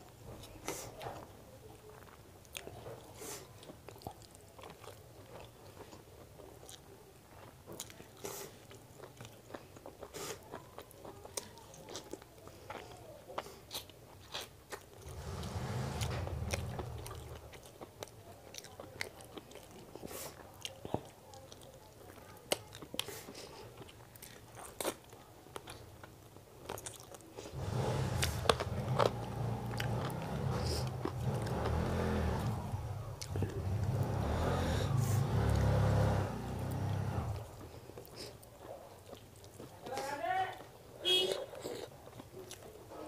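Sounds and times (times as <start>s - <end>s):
chewing and mouth clicks: 0.4s - 27.6s, 28.2s - 34.4s, 36.6s - 43.0s.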